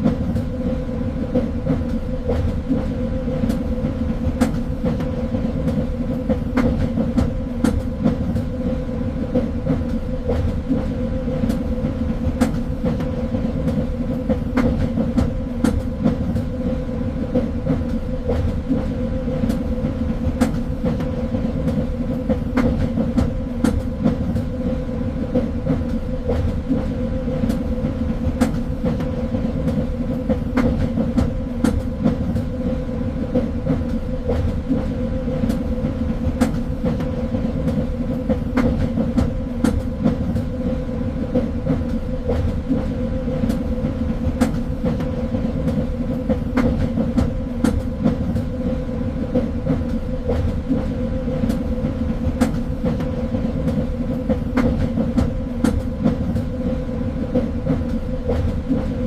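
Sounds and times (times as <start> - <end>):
rail clicks and knocks: 0.0 - 59.0
train wheels rumbling on rail: 0.0 - 59.0.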